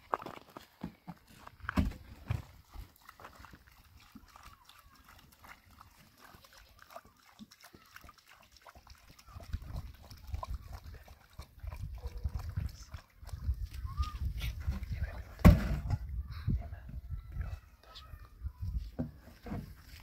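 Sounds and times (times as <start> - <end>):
water pouring and glugging: 1.2 - 20.0.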